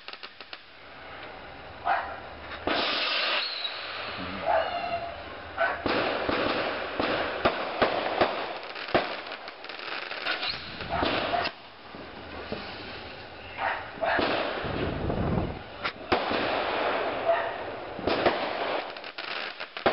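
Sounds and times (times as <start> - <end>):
fireworks bangs: 0.0 - 0.8, 2.6 - 19.9
fireworks crackling: 0.0 - 19.9.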